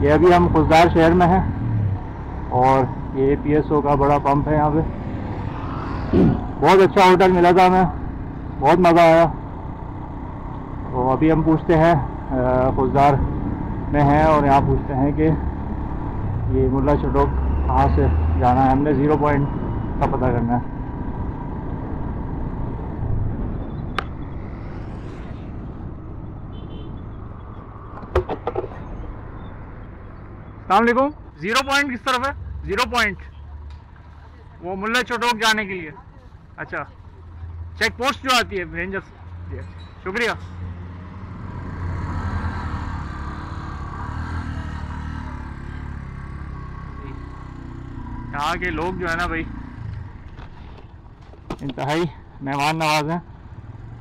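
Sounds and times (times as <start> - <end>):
motorcycle engine rumbling: 0.0 - 54.0
road traffic: 0.0 - 54.0.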